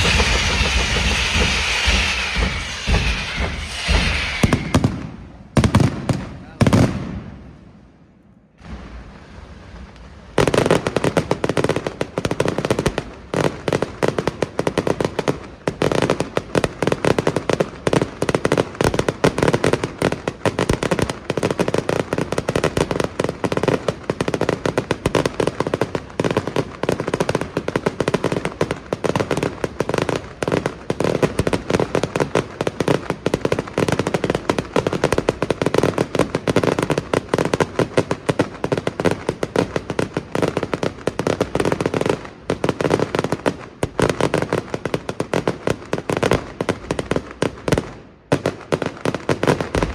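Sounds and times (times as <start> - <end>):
fireworks bangs and crackling: 0.0 - 7.5, 10.4 - 49.9.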